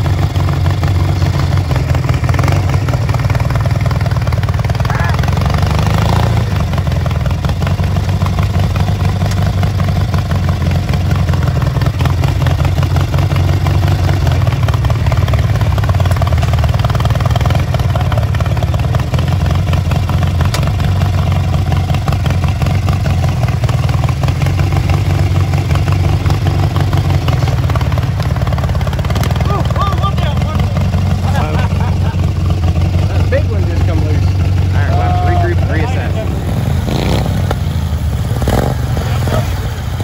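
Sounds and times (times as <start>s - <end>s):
riding mower engine running: 0.0s - 40.0s.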